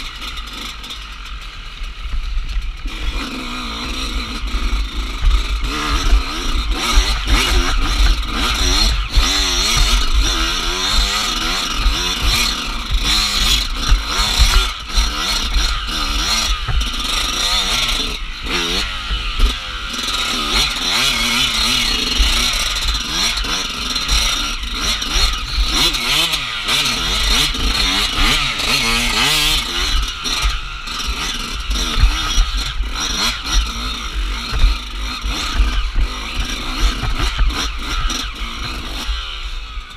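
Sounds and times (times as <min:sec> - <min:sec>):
chassis clattering over bumps: 0:00.0 - 0:39.2
dirt bike engine revving: 0:00.0 - 0:39.9.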